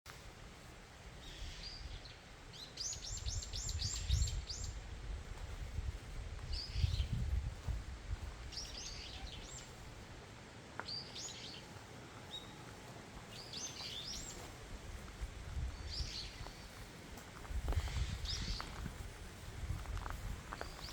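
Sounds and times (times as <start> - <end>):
songbirds chirping: 0.2 - 20.9.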